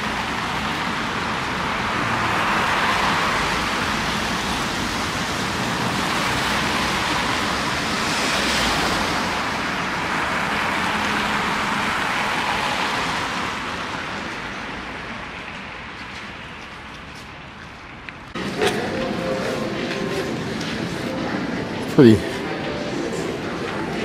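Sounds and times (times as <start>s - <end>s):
cars passing by: 0.0s - 24.0s.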